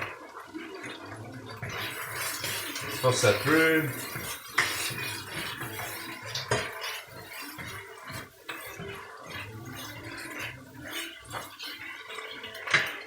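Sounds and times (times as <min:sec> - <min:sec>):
vegetables sizzling in a hot pan: 0:00.0 - 0:13.0.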